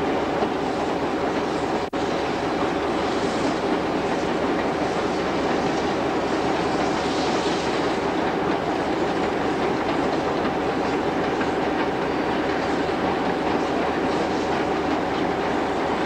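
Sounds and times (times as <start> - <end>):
train rumbling and clattering: 0.0 - 16.0.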